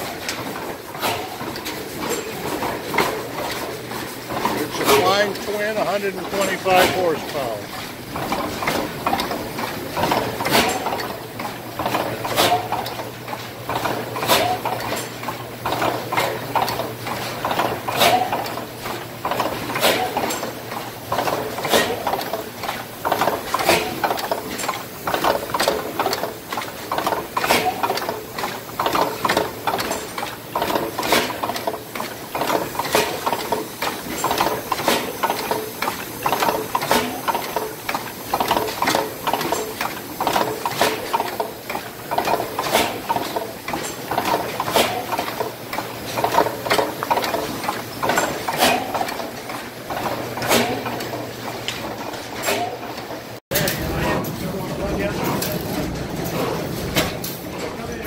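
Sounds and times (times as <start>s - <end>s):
valve gear clattering: 0.0s - 57.8s.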